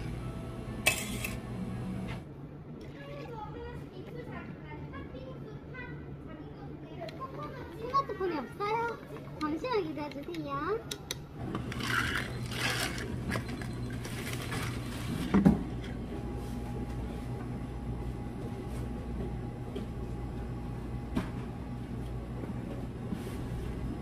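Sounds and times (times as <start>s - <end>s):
low hum of cafe equipment: 0.0s - 24.0s.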